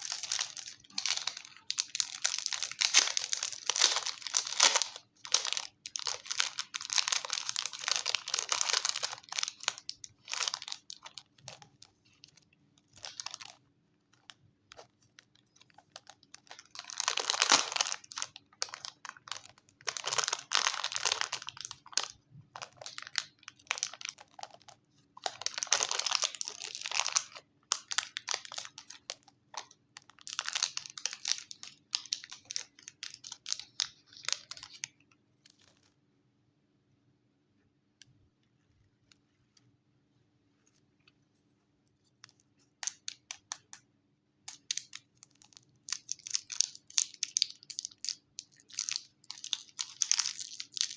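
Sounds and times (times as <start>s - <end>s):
packaging crinkling and tearing: 0.0s - 34.9s, 44.5s - 50.9s.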